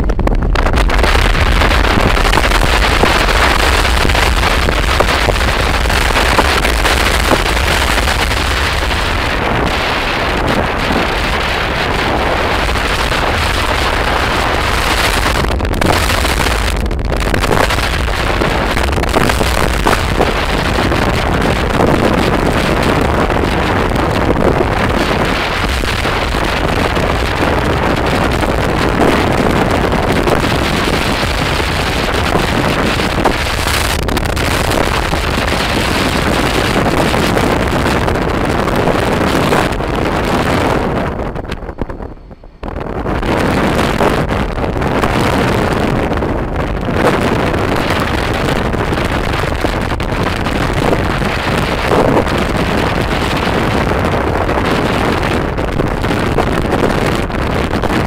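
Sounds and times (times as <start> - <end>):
motorbike engine rumble: 0.0 - 58.0
wind buffeting microphone: 0.0 - 58.0.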